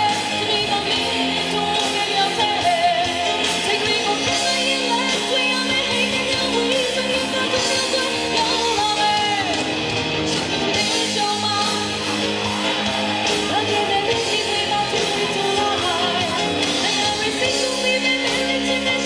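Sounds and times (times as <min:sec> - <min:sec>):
woman singing into a microphone: 0:00.0 - 0:09.7, 0:10.7 - 0:12.4, 0:13.3 - 0:19.0
live band with guitar: 0:00.0 - 0:19.0.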